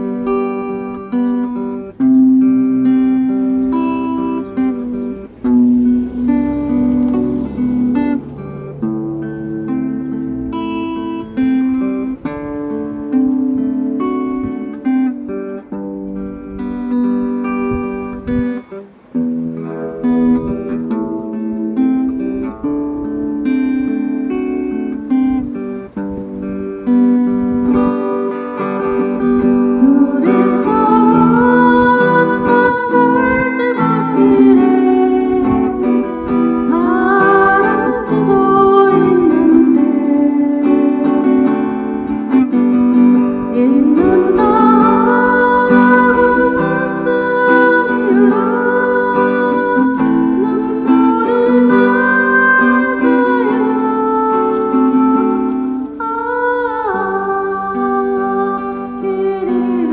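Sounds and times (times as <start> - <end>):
sliding wavering melody: 0.0 - 55.9
acoustic guitar accompaniment: 0.0 - 59.9.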